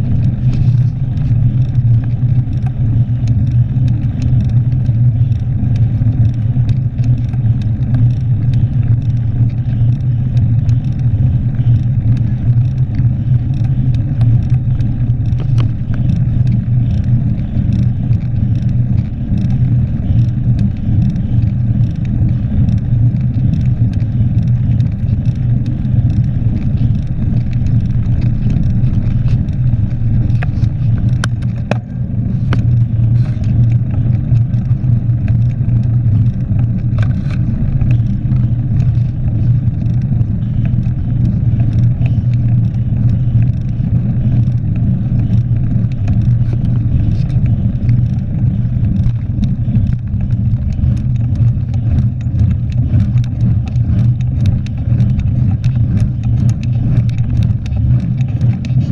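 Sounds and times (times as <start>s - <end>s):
bike clicks and rattles: 0.0s - 58.9s
bike tyres rumbling on paving: 0.0s - 58.9s
wind on microphone: 0.0s - 58.9s.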